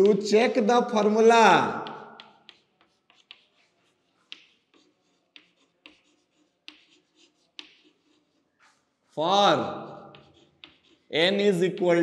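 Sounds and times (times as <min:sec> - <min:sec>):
chalk tapping on blackboard: 0:00.0 - 0:00.4, 0:01.6 - 0:12.0
chalk scratching: 0:01.8 - 0:12.0.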